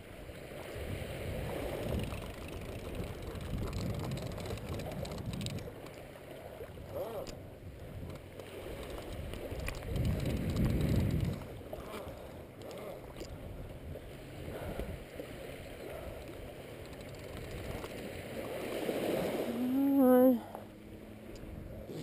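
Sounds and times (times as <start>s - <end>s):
wind rumbling on microphone: 0.0s - 20.2s
small waves lapping: 0.0s - 22.0s.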